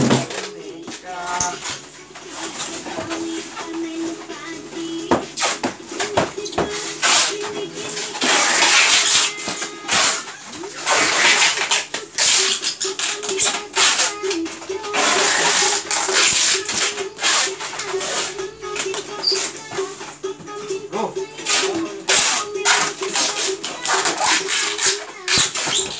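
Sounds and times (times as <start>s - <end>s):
background music: 0.0s - 25.9s.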